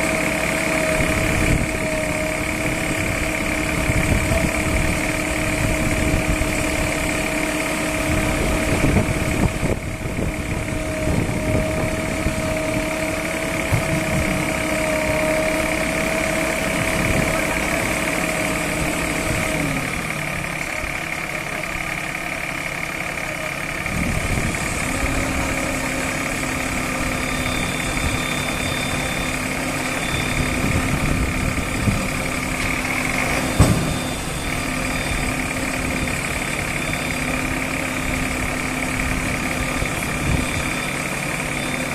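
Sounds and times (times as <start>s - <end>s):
diesel engines running: 0.0s - 41.9s.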